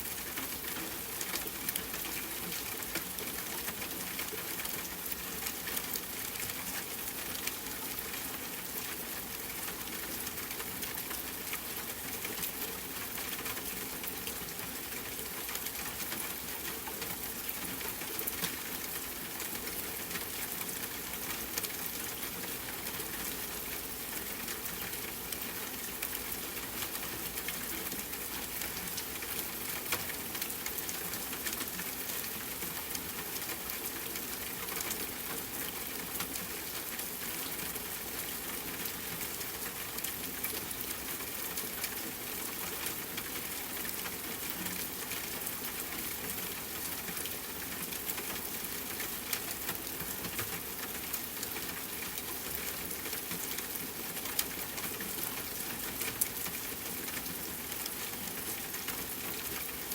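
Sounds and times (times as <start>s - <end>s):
rain on a tent: 0.0s - 59.9s.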